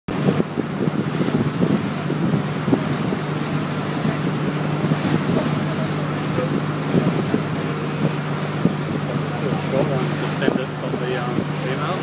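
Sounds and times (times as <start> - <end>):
boat engine humming: 0.1 - 12.0
rushing wind: 0.1 - 12.0
water noise: 0.1 - 12.0.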